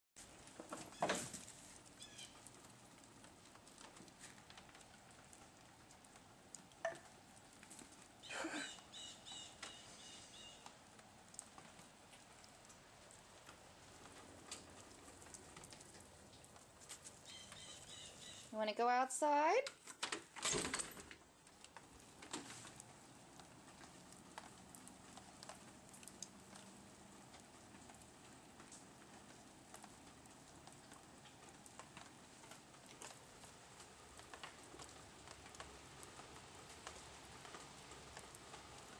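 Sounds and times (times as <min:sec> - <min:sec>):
light rain hiss: 0:00.2 - 0:38.9
rain drips on stone: 0:00.2 - 0:38.9.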